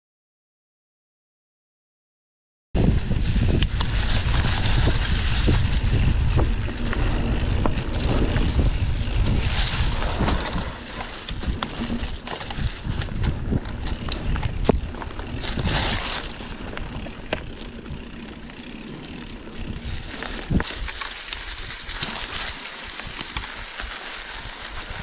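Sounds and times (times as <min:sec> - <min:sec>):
wind buffeting microphone: 0:02.8 - 0:25.0
sharp clicks and rattles: 0:03.5 - 0:23.7.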